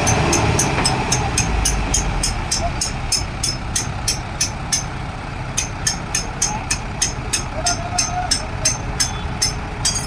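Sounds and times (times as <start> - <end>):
concrete mixer rumbling: 0.0 - 10.0.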